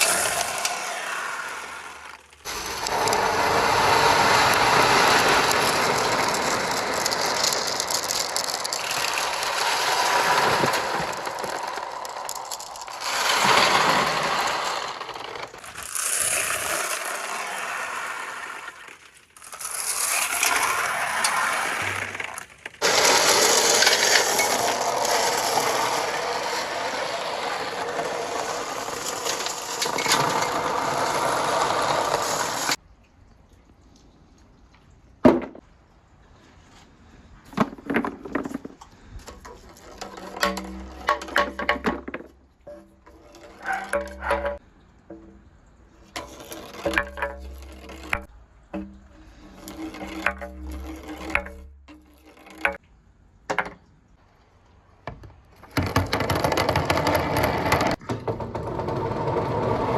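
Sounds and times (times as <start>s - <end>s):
marbles rattling through pipes: 0.0s - 32.8s, 37.7s - 52.8s, 55.6s - 58.0s.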